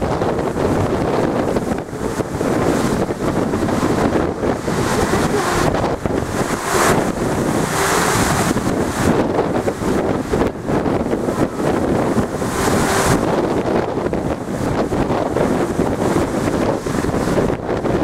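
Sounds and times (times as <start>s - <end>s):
storm waves crashing on sea wall: 0.0s - 18.0s
wind buffeting microphone: 0.0s - 18.0s.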